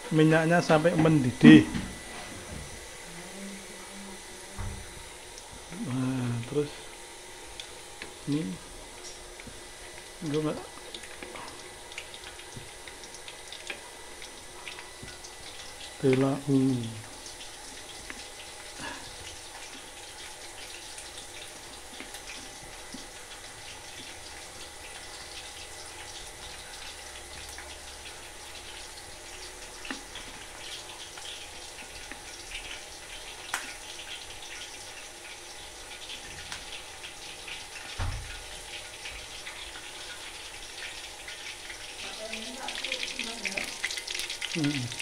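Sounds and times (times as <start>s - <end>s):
oil sizzling in a frying pan: 0.0s - 45.0s.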